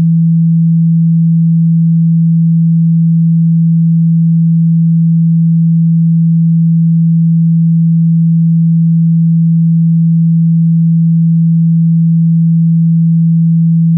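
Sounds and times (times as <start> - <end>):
low steady sine tone: 0.0 - 13.9.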